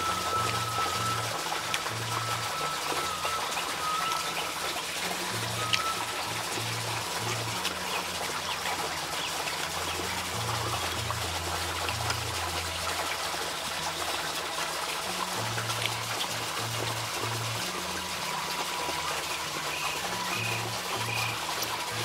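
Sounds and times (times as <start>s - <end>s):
soft background music: 0.0s - 22.0s
trickling rushing water: 0.0s - 22.0s.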